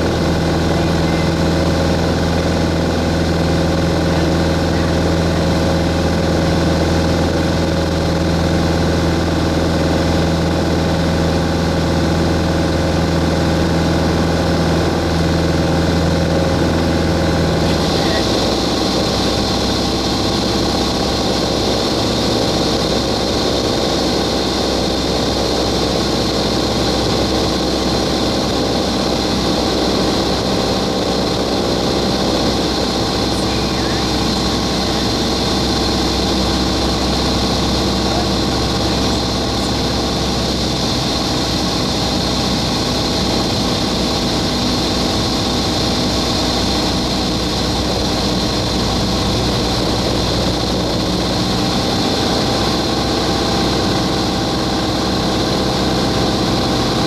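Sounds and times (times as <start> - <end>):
high hum: 0.0 - 11.4, 12.8 - 57.0
aircraft engine and propeller drone: 0.0 - 57.0.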